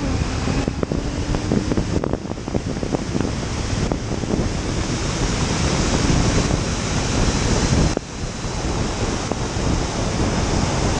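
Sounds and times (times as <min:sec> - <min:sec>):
road and tyre noise: 0:00.0 - 0:10.9
wind buffeting microphone: 0:00.0 - 0:10.9.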